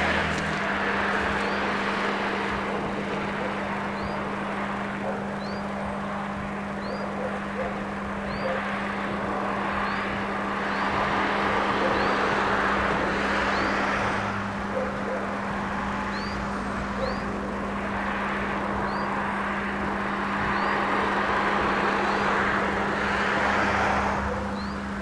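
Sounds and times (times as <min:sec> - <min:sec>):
distant steam locomotive rushing: 0:00.0 - 0:25.0
steady low hum: 0:00.0 - 0:25.0.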